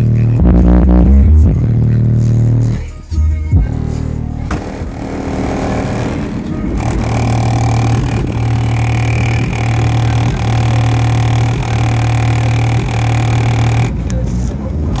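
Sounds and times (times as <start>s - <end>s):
loud bass-heavy music from car: 0.0s - 15.0s.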